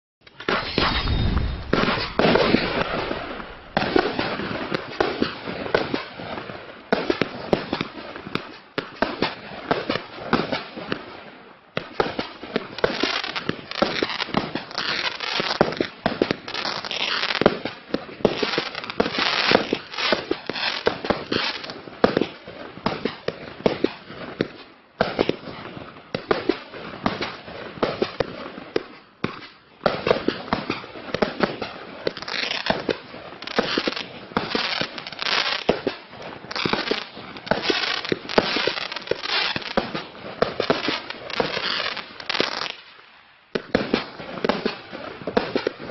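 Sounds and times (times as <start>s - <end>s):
firework shots and aerial bursts: 0.3s - 45.9s.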